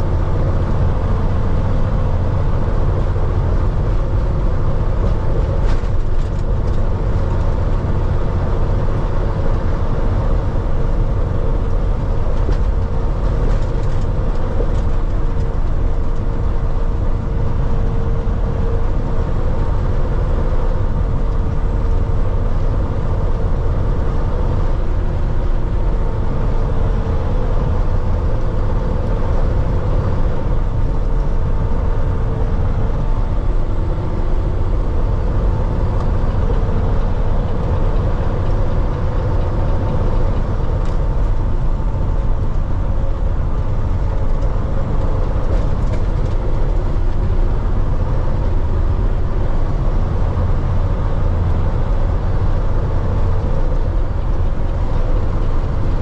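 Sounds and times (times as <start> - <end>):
diesel engine droning: 0.0 - 56.0
road and tyre noise: 0.0 - 56.0.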